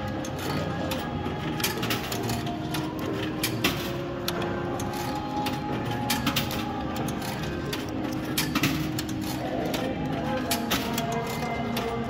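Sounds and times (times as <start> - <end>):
coins clicking into coin slot: 0.0 - 12.0.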